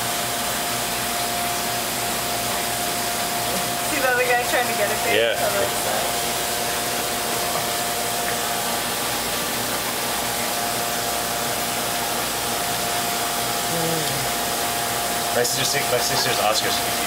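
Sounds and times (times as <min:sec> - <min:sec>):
aquarium pump hiss: 0:00.0 - 0:17.0.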